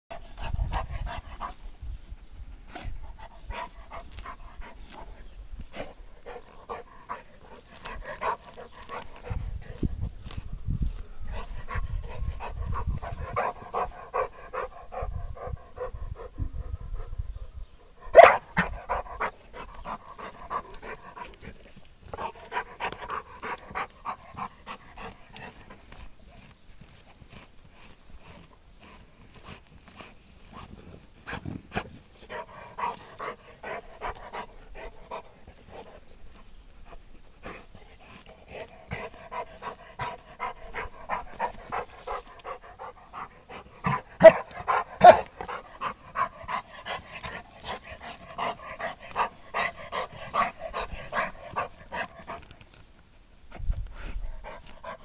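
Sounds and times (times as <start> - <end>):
paws scraping dirt: 0.1 - 16.3, 18.1 - 55.0
dog panting: 2.8 - 9.9, 11.3 - 17.1, 18.2 - 25.9, 29.4 - 52.4, 54.0 - 55.0.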